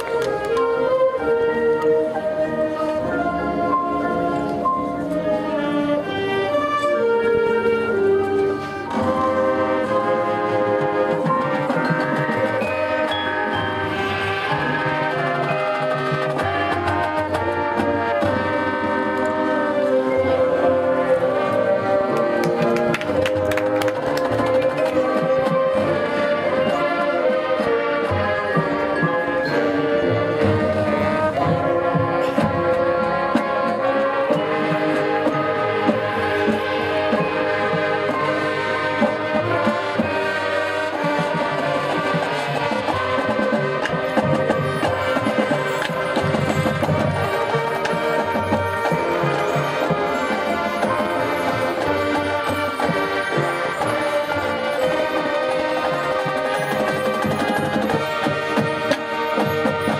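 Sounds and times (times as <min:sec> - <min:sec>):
brass chords: 0:00.0 - 0:59.9
steady percussion: 0:00.0 - 0:59.9.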